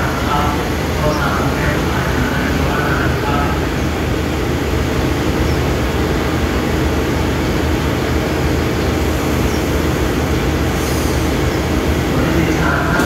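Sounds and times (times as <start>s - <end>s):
diesel train engines running: 0.0s - 13.0s.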